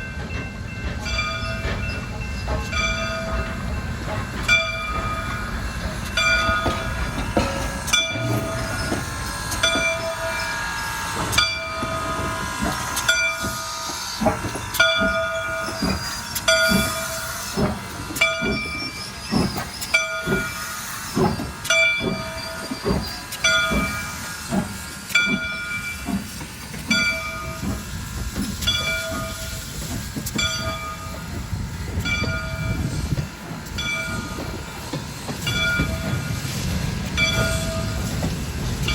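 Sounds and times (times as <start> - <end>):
train wheels knocking: 0.0 - 10.5, 11.1 - 38.9.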